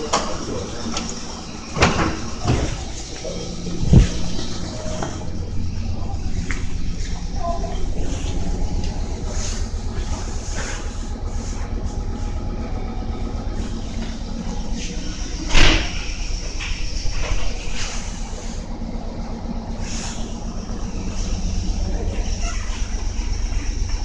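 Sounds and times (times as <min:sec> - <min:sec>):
train interior rumble and hum: 0:00.0 - 0:24.0.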